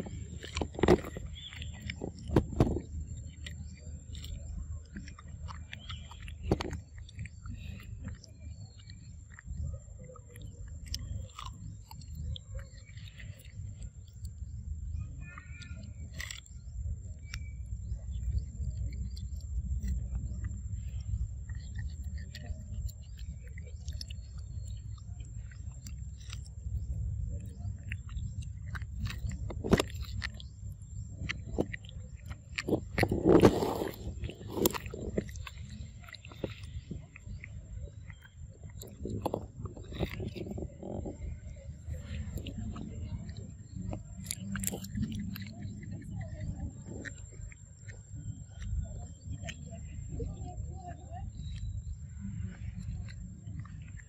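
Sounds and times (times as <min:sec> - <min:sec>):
monkey chewing food: 0:00.0 - 0:54.0
small mouth clicks: 0:00.0 - 0:54.0.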